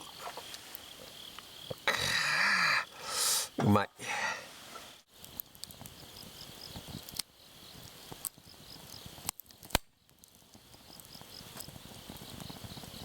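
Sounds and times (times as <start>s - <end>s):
campfire crackling and popping: 0.0s - 13.0s
crickets chirping: 0.0s - 13.0s.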